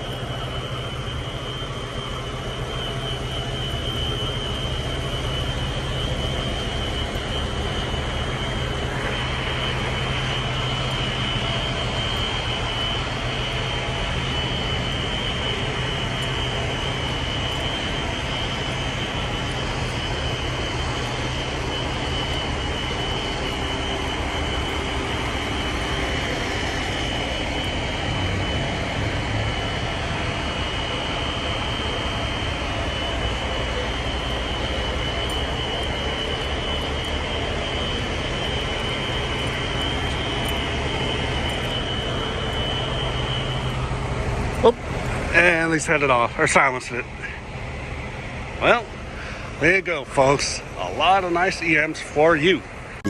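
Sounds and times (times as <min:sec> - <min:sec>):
low hum: 0:00.0 - 0:51.4
fire alarm tone: 0:00.0 - 0:52.8.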